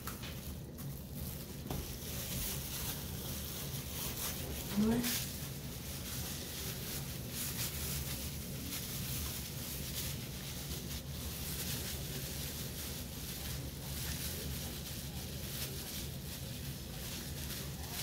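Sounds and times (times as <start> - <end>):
plastic gloves rustling: 0.0 - 18.0
steady low hum: 0.0 - 18.0.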